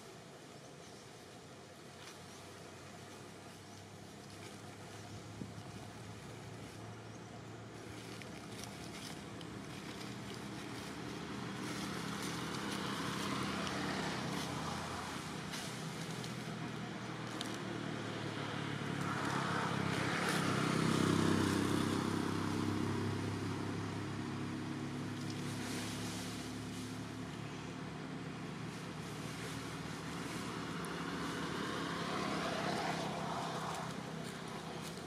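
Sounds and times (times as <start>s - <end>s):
vehicle engine passing: 2.5s - 35.0s.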